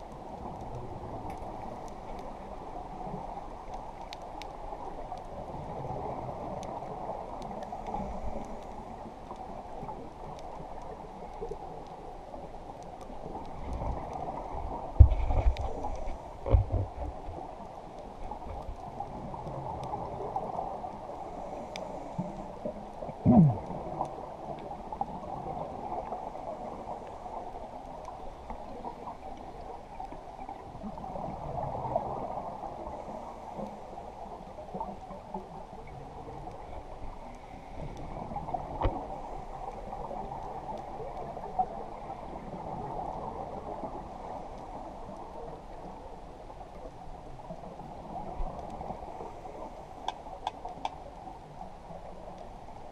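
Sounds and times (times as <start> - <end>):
faint clicks: 0.0 - 31.0, 33.6 - 41.7, 46.7 - 52.6.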